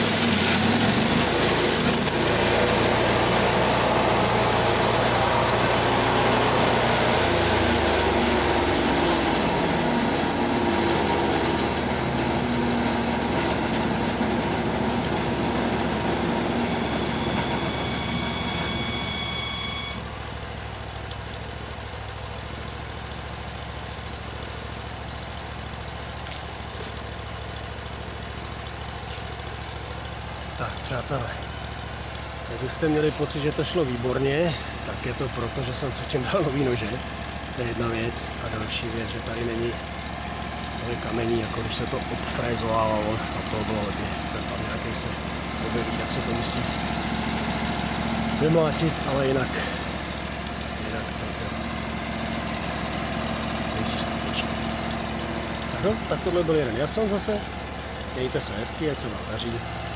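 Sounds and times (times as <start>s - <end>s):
stump grinder engine under load: 0.0s - 59.9s.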